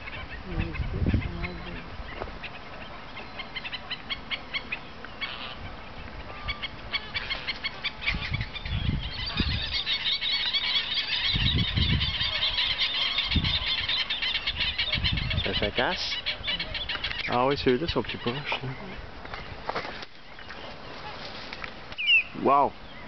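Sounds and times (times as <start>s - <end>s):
wading birds chirping: 0.0s - 23.0s.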